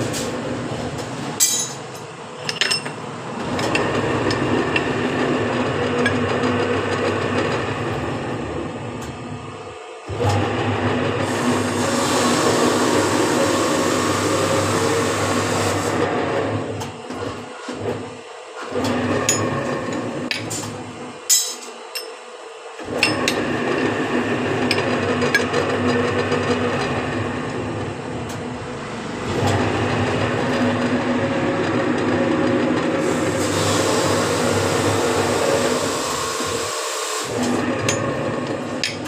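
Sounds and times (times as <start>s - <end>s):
bending machine humming: 0.0s - 39.0s.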